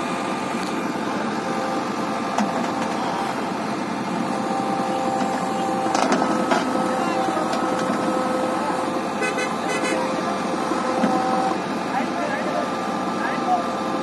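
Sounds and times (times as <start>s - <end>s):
diesel engine running: 0.0s - 14.0s
hydraulic whine: 0.0s - 14.0s.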